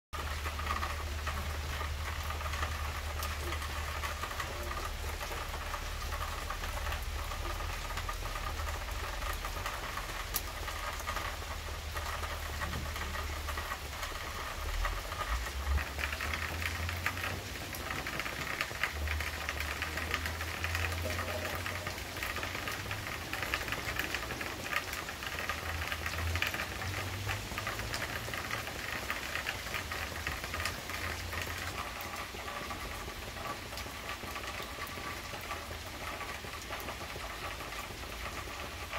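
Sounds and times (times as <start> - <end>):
rain on leaves: 0.1 - 38.9.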